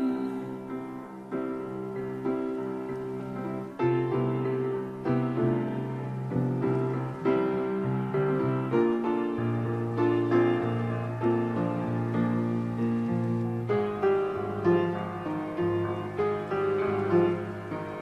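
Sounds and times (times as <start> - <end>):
slow gentle piano: 0.0 - 18.0.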